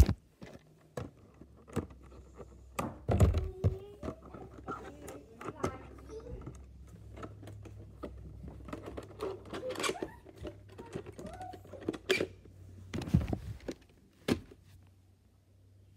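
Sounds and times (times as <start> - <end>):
hands handling plastic case: 0.0 - 14.9.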